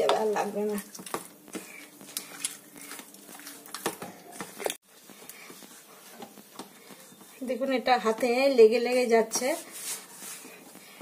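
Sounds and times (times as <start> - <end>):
dough slapping in metal bowl: 0.0 - 4.8, 5.4 - 10.1.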